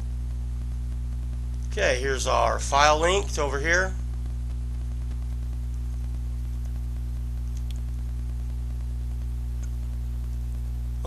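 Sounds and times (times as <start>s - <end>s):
mains hum: 0.0s - 11.0s.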